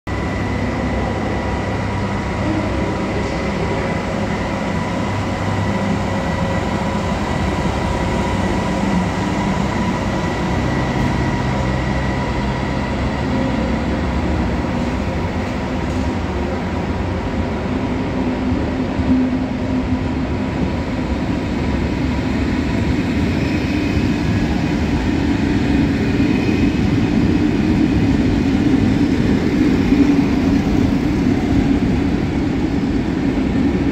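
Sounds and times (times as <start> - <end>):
train rumbling: 0.1 - 33.9.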